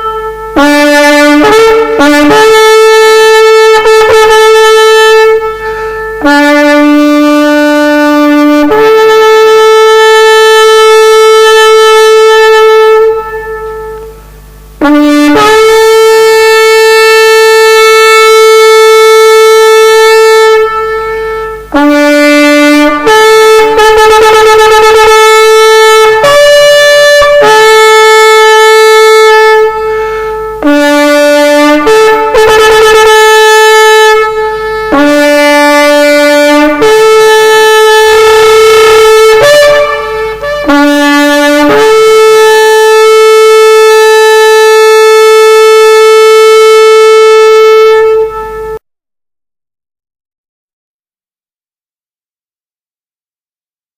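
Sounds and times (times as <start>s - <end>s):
horn blowing long notes: 0.0s - 48.8s.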